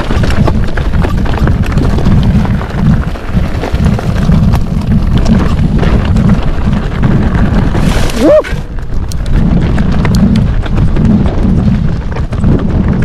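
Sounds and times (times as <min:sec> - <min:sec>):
bike clicks and rattles: 0:00.0 - 0:13.0
wind buffeting microphone: 0:00.0 - 0:13.0.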